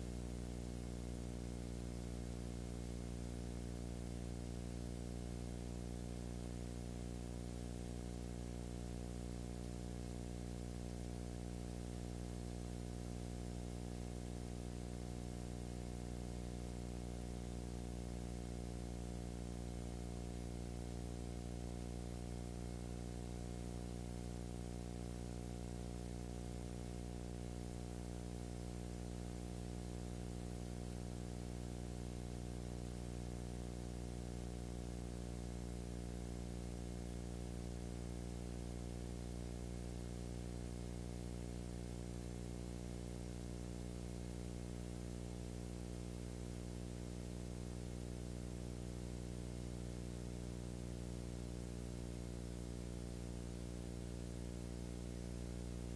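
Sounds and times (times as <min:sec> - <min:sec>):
electrical mains hum: 0:00.0 - 0:55.9.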